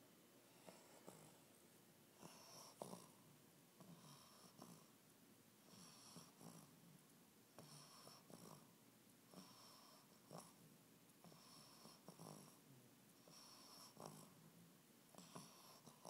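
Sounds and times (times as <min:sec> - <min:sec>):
puppy snoring faintly: 0:00.5 - 0:01.5, 0:02.1 - 0:05.0, 0:05.6 - 0:08.7, 0:09.3 - 0:16.0.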